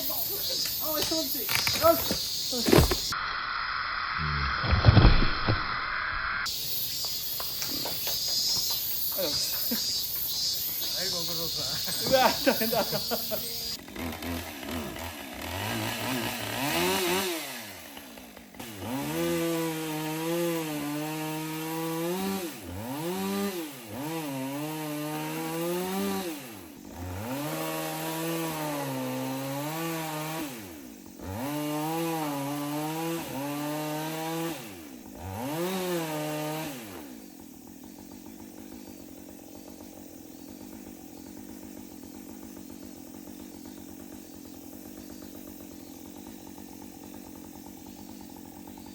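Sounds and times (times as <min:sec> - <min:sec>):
chainsaw cutting wood: 0:00.5 - 0:03.2, 0:04.6 - 0:05.8, 0:06.4 - 0:48.9.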